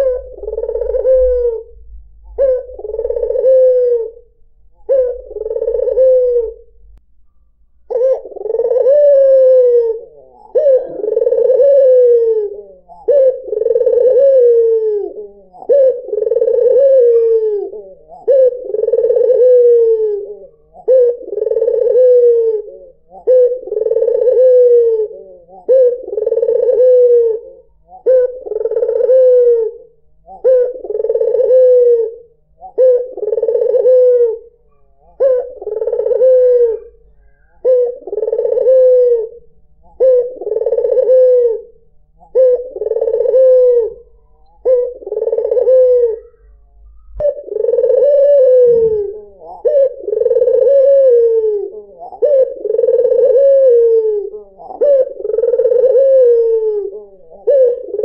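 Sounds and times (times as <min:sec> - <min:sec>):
dove cooing: 0:00.0 - 0:07.0, 0:07.9 - 0:58.0.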